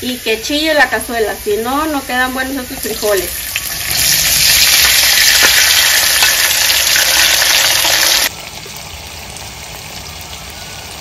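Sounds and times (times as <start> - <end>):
beans sizzling in a skillet: 0.1 - 11.0.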